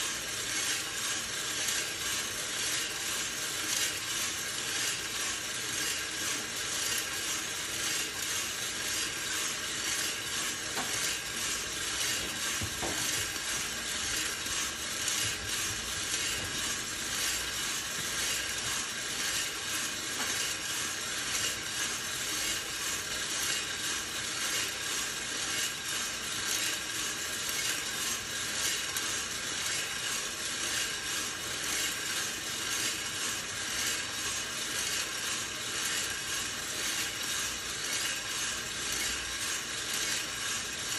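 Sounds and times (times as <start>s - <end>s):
coffee beans rattling in drum: 0.0s - 40.9s
roaster machine running: 0.0s - 40.9s.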